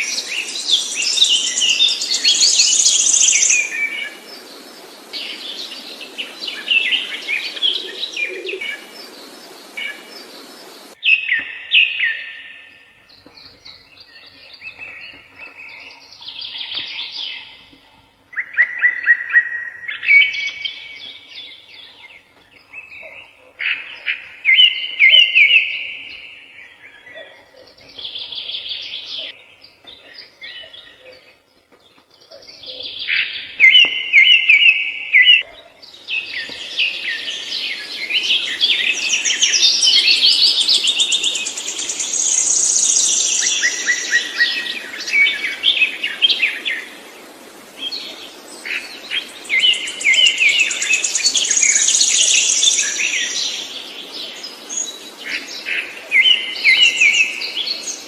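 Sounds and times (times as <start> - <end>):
songbird singing: 0.0 - 58.0
steady background hiss: 0.0 - 58.0.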